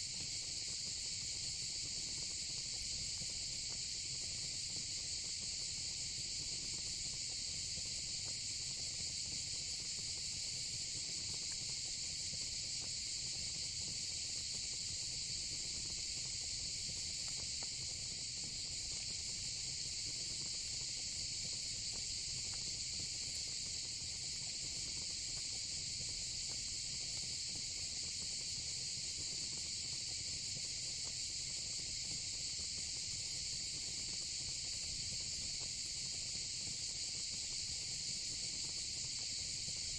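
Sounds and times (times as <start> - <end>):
crickets and cicadas chorus: 0.1 - 39.9.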